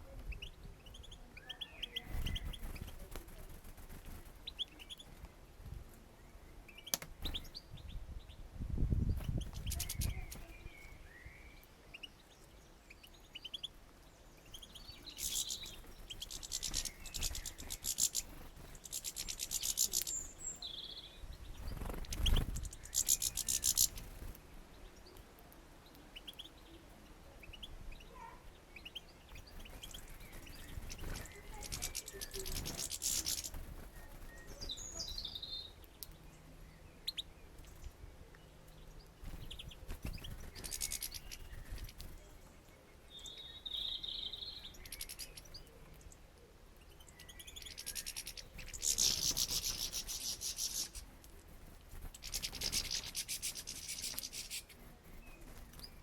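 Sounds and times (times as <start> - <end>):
songbirds twittering and chirping: 0.0 - 56.0.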